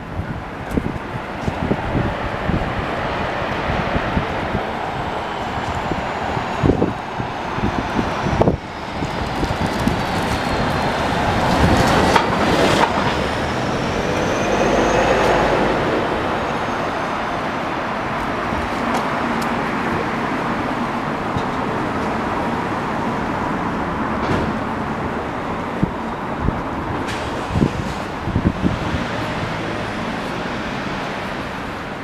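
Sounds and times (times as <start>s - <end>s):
passing vehicle noise: 0.0s - 32.0s.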